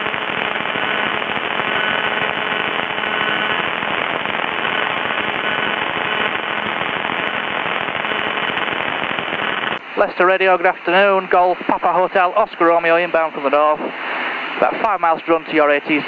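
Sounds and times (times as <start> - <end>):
radio static crackling: 0.0 - 16.0.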